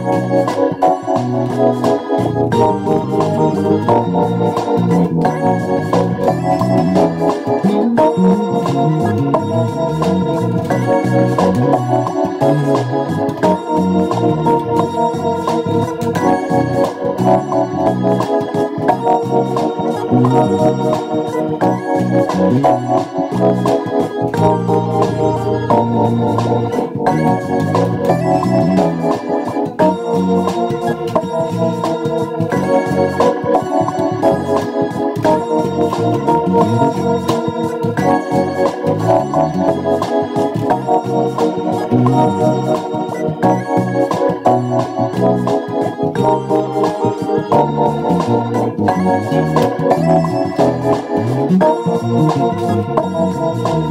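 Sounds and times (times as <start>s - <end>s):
electric bass guitar groove: 0.0s - 53.9s
steady beat: 0.0s - 53.9s
sustained organ chords: 0.0s - 53.9s.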